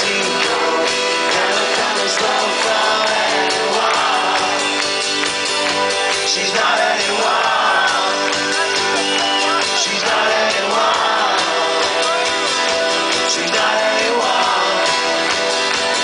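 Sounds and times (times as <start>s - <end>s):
crowd singing and shouting: 0.0s - 16.0s
live rock band guitar chords: 0.0s - 16.0s.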